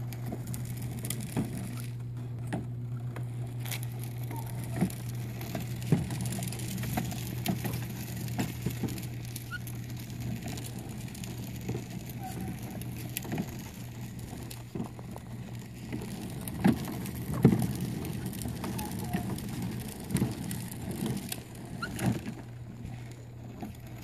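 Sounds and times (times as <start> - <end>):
plastic wheels rumbling on concrete: 0.0 - 24.0.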